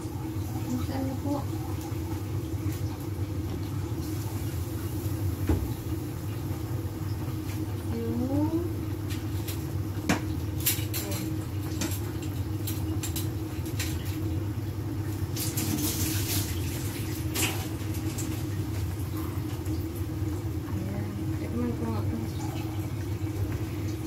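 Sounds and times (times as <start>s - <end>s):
broth boiling and bubbling: 0.0s - 24.0s
gas burner hum: 0.0s - 24.0s.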